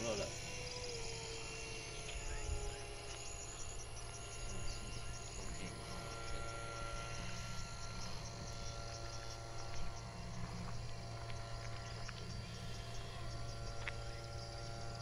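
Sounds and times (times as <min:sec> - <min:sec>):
field insects chirping: 0:00.0 - 0:15.0
steady low hum: 0:00.0 - 0:15.0.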